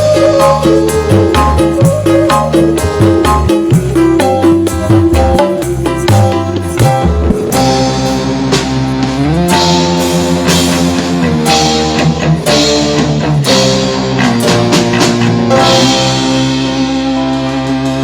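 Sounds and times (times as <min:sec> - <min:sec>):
drum kit: 0:00.0 - 0:18.0
electric guitar: 0:00.0 - 0:18.0.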